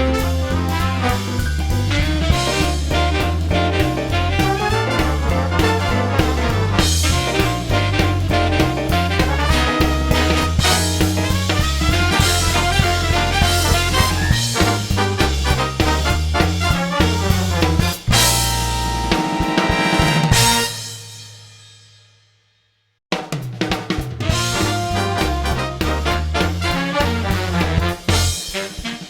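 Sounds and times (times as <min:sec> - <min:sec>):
swing music with brass: 0:00.0 - 0:21.9, 0:23.3 - 0:29.0.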